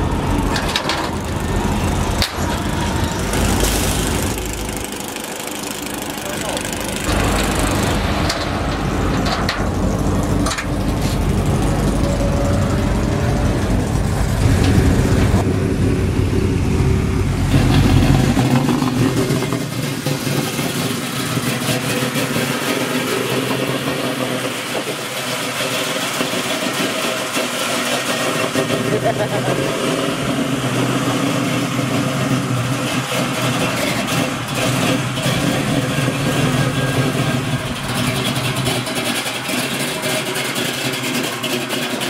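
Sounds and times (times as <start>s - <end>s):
car engines idling and revving: 0.0s - 42.0s.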